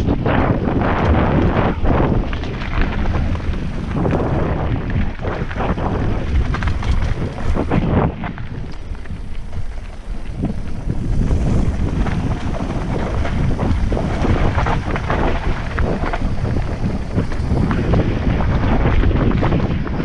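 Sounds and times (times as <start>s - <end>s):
bike rattles and clicks: 0.0s - 20.0s
wind buffeting microphone: 0.0s - 20.0s
tyres over loose stones: 0.7s - 18.8s.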